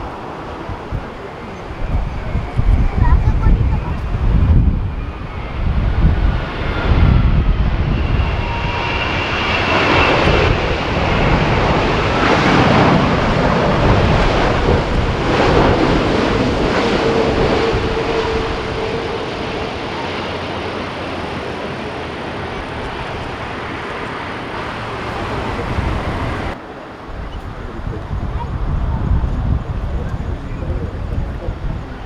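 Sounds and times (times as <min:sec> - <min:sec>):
jet engines passing overhead: 0:00.0 - 0:32.0
wind buffeting microphone: 0:00.0 - 0:32.0.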